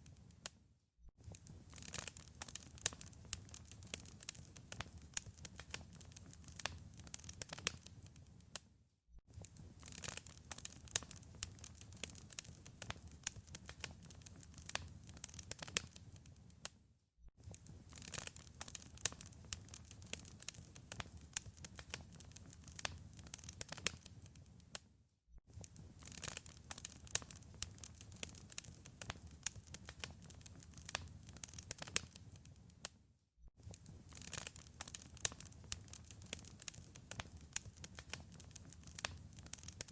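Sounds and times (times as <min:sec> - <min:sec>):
wood fire crackling: 0:01.2 - 0:08.6, 0:09.4 - 0:16.7, 0:17.4 - 0:24.8, 0:25.5 - 0:32.9, 0:33.6 - 0:39.9.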